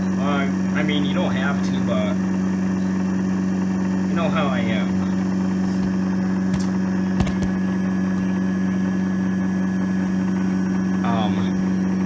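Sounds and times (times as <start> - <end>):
disc repair machine motor hum: 0.0 - 12.0.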